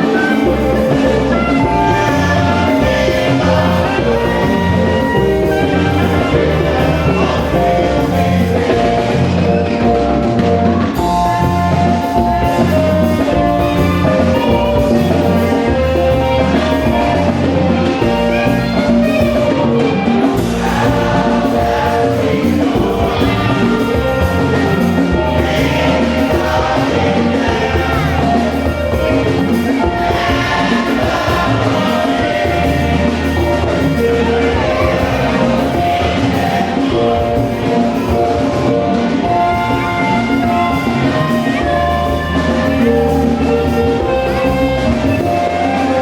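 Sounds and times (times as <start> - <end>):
gospel singing with instruments: 0.0 - 46.0.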